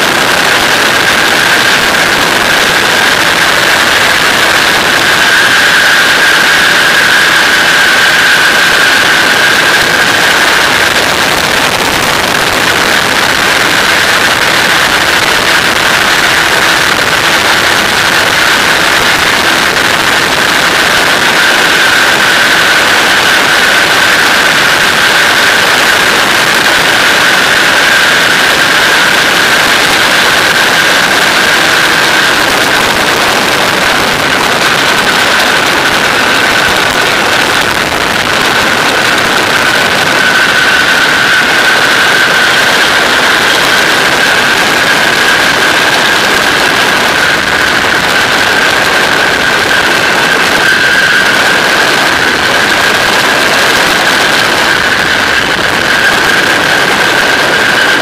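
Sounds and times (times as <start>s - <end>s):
light aircraft engine droning: 0.0s - 58.0s
rushing airflow: 0.0s - 58.0s.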